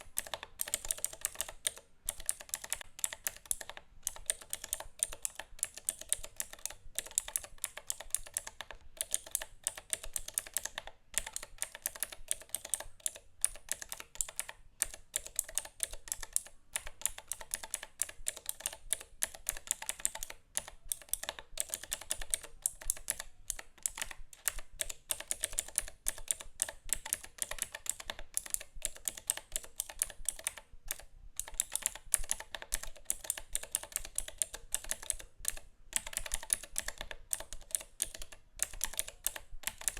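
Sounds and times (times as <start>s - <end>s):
fast typing on a keyboard: 0.0s - 39.9s.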